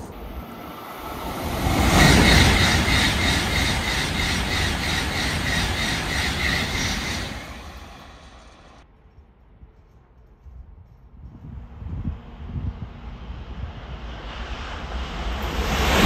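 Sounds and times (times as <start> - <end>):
train passing at speed: 0.0 - 8.8, 11.4 - 16.0.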